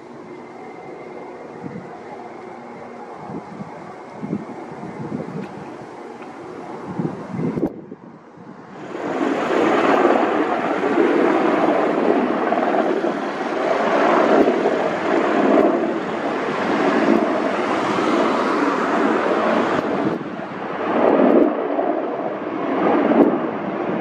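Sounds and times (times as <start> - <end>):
helicopter rotor and turbine noise: 0.0 - 24.0.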